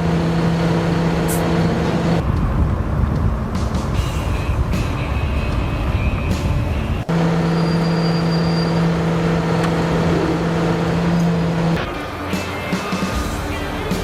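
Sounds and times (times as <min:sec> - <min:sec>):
engine running steadily: 0:00.0 - 0:14.0
heavy vehicle engine rumbling: 0:00.0 - 0:14.0.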